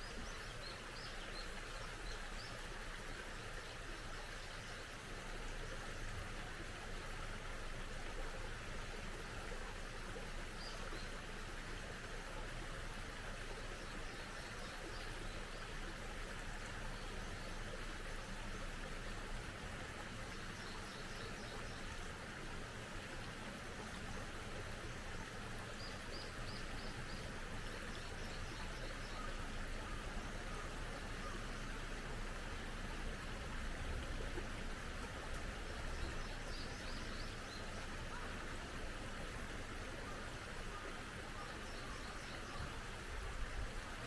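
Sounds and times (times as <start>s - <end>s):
mountain stream flowing: 0.0s - 44.0s.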